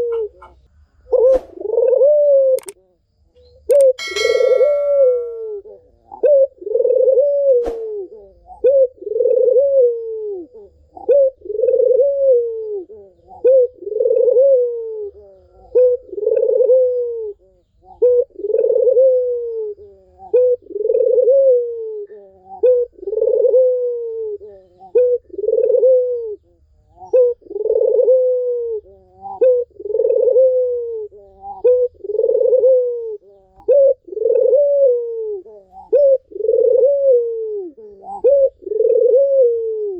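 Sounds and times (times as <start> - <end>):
dove cooing: 0.0 - 2.7, 3.7 - 39.9.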